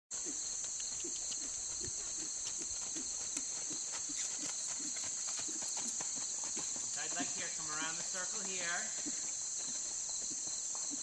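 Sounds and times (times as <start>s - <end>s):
horse hoofbeats on sand: 0.1s - 11.0s
high insect drone: 0.2s - 11.0s.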